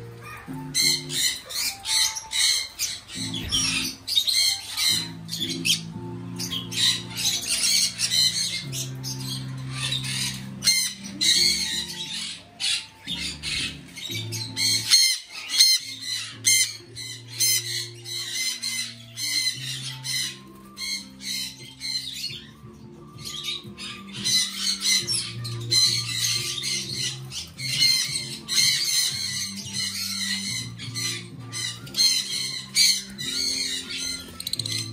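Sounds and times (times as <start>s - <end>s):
background music with low notes: 0.0s - 34.9s
parrots squawking: 0.0s - 34.9s.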